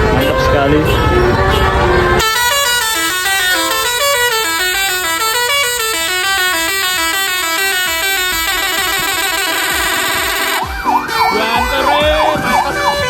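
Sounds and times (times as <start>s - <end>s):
bus horn playing fast melody: 0.0s - 13.0s.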